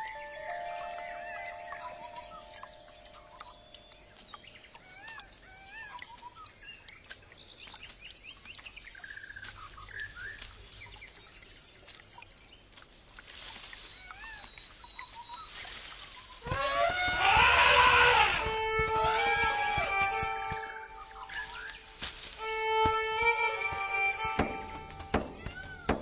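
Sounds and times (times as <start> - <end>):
small birds chirping: 0.0 - 16.6, 18.1 - 26.0.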